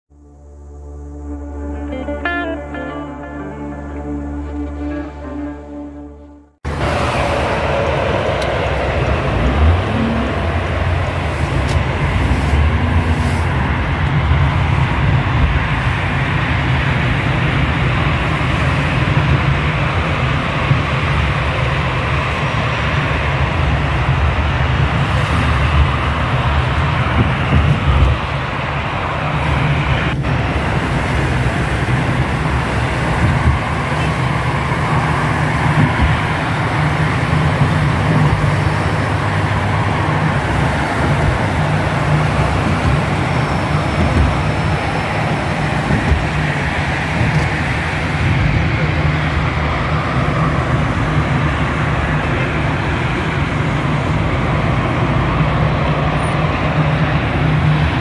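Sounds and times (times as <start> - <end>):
highway traffic passing: 0.1 - 58.0.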